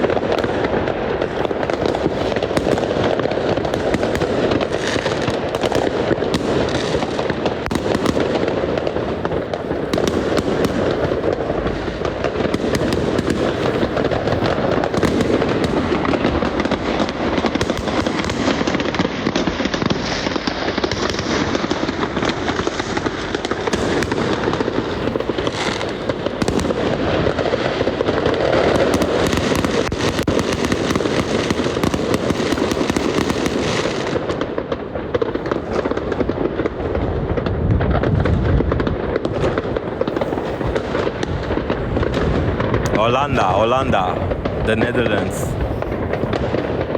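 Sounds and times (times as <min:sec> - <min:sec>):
fireworks bangs pops and crackling: 0:00.0 - 0:46.9.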